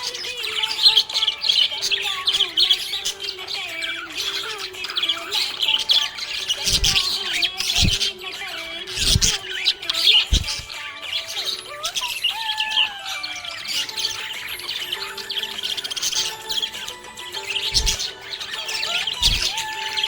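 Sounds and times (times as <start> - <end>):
budgerigar chattering: 0.0 - 20.0.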